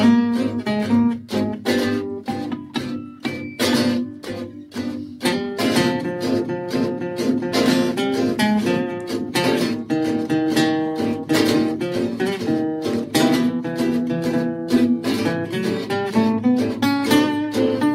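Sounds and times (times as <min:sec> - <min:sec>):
strummed acoustic guitar: 0:00.0 - 0:17.9.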